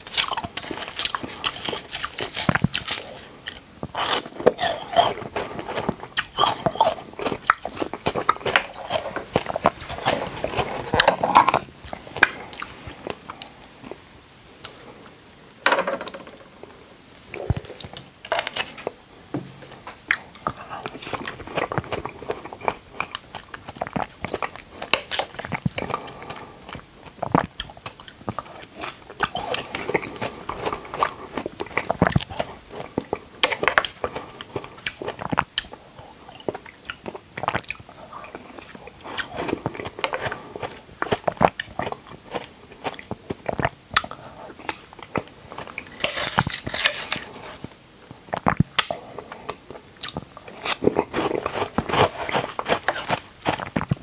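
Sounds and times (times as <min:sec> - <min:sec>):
wet chewing and biting: 0:00.0 - 0:13.6, 0:20.0 - 0:54.0.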